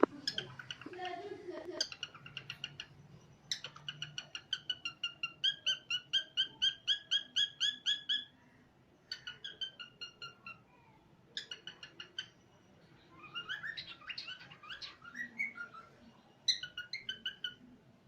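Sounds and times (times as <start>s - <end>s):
cockatiel chirping: 0.0s - 1.1s, 1.7s - 8.4s, 9.1s - 10.6s, 11.3s - 12.4s, 13.1s - 17.7s.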